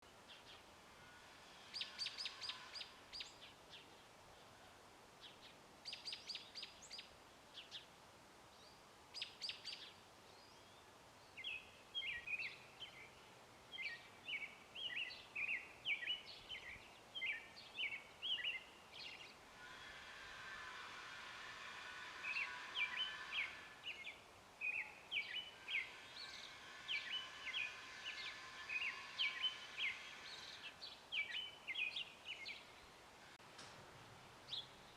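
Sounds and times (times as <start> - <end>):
songbirds singing: 0.0 - 7.9, 8.5 - 33.4, 34.4 - 34.9.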